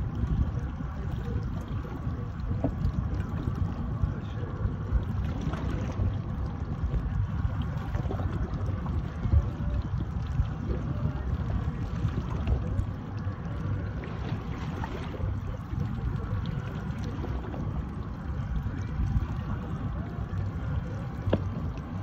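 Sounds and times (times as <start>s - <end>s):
water lapping against boat: 0.0s - 22.0s
wind rumbling on microphone: 0.0s - 22.0s.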